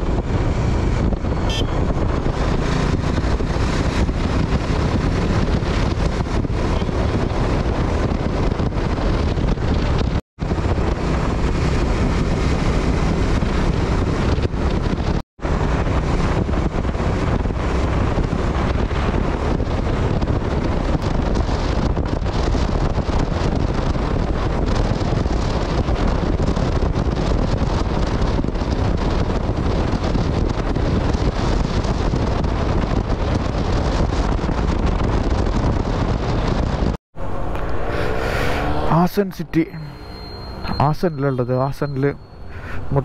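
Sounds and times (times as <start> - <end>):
wind buffeting microphone: 0.0 - 40.8
motorcycle engine: 0.0 - 41.0
road noise: 0.0 - 43.0.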